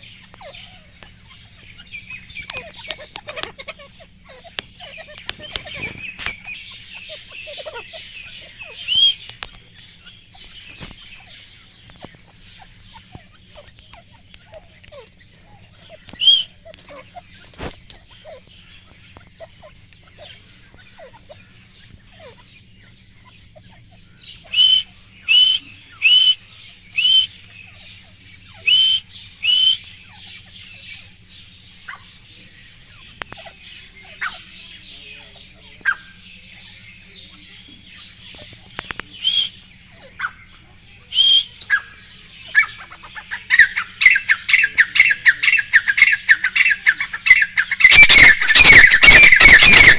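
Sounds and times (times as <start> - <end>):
francolin calling: 0.0 - 49.9.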